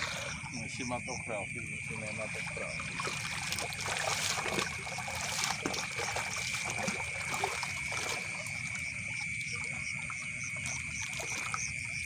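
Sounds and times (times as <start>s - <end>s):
night insects droning: 0.0s - 12.0s
water trickling and splashing: 0.0s - 12.0s.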